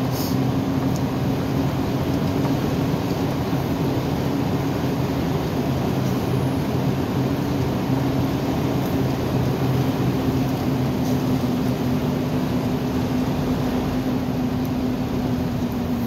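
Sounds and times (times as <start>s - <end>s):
road and tyre noise: 0.0s - 16.0s
truck engine droning: 0.0s - 16.0s.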